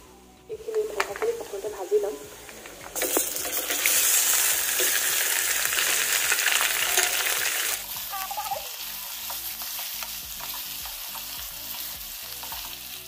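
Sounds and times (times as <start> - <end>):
chicken sizzling in hot oil: 0.8 - 13.0
wooden spoon stirring: 2.2 - 13.0.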